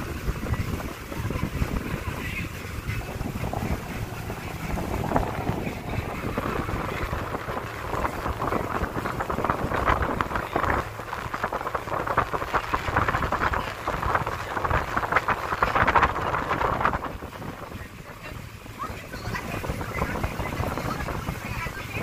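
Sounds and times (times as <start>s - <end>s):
boat motor running: 0.0s - 22.0s
wind buffeting microphone: 0.0s - 22.0s.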